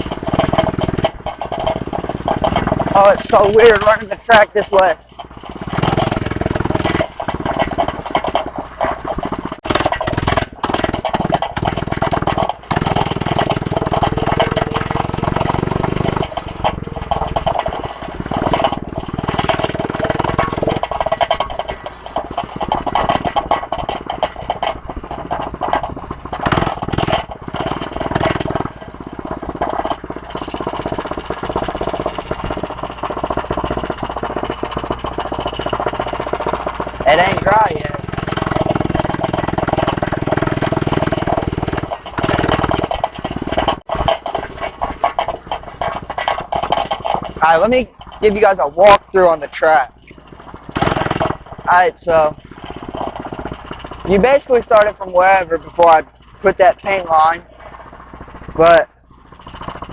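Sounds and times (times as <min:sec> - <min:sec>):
dirt bike engine revving: 0:00.0 - 0:59.9
knocks and rattles from bumps: 0:00.0 - 0:59.9.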